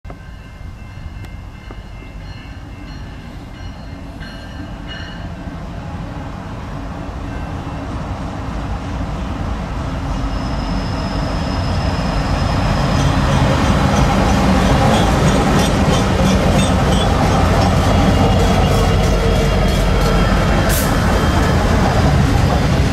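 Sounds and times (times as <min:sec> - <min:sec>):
diesel locomotive engine rumble: 0:00.1 - 0:22.9.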